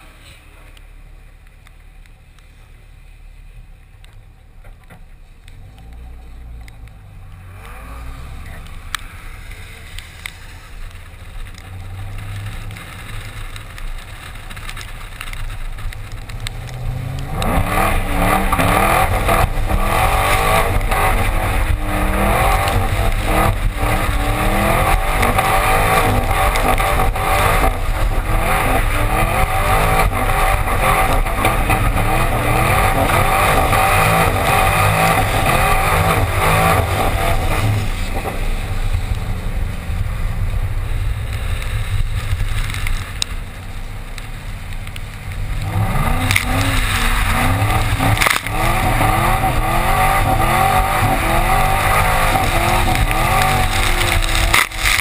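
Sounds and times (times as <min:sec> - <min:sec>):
steady rush of noise: 0:00.0 - 0:55.0
car engine revving: 0:04.4 - 0:55.0.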